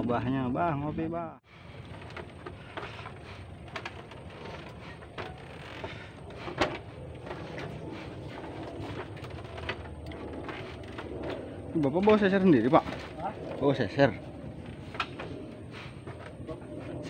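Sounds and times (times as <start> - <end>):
low rumble: 1.3 - 17.0
footsteps on bamboo platform: 1.5 - 17.0.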